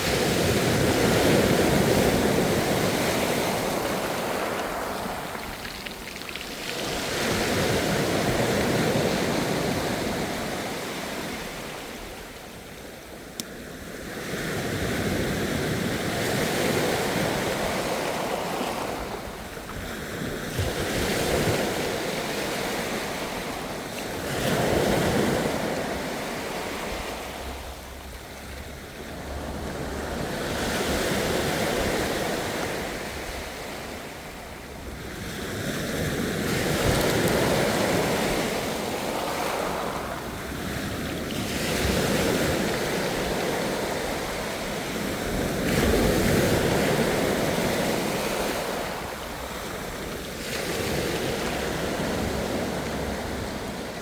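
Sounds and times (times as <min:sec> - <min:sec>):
ocean waves washing in: 0:00.0 - 0:12.2, 0:13.8 - 0:54.0
wind on microphone: 0:00.0 - 0:54.0.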